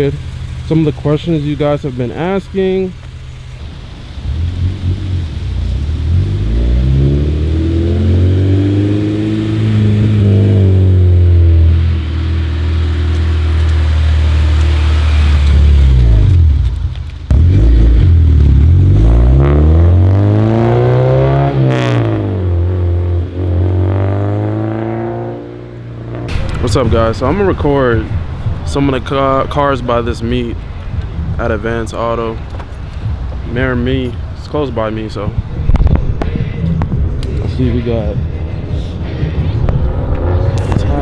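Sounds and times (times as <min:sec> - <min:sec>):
car engine accelerating hard: 0:00.0 - 0:41.0.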